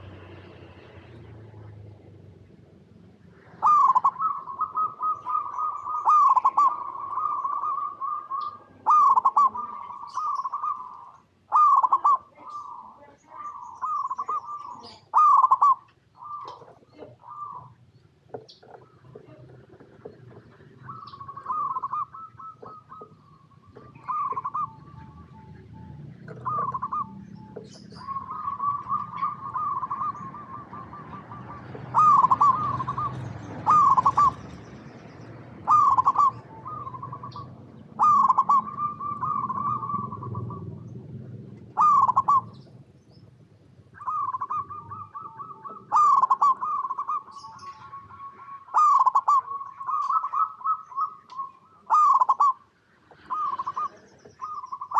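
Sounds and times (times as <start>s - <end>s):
dove cooing: 3.3s - 42.8s, 43.7s - 54.9s.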